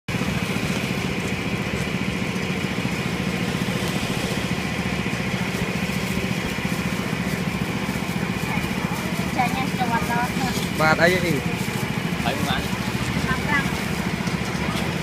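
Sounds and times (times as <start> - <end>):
small engine idling: 0.1 - 15.0.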